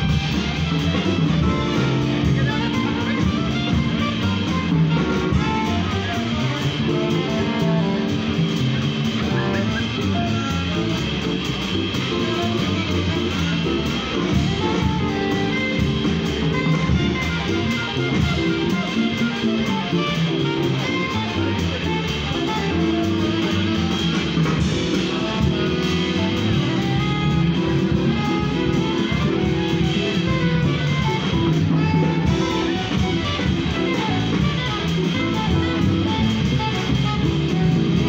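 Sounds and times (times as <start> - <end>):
drum kit: 0.0 - 38.0
electric keyboard: 0.0 - 38.0
plucked upright bass: 0.0 - 38.0.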